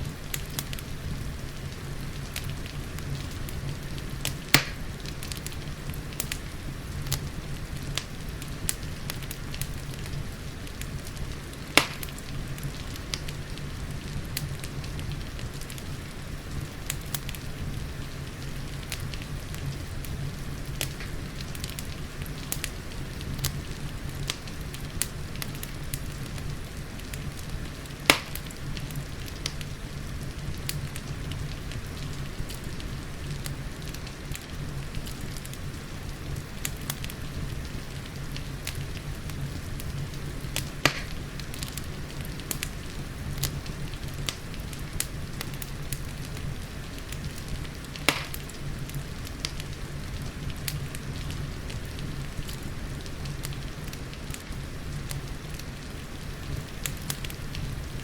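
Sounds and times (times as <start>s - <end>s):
hiss of rain: 0.0s - 58.0s
wood fire crackling: 0.0s - 58.0s
sharp pops of fire: 0.1s - 58.0s.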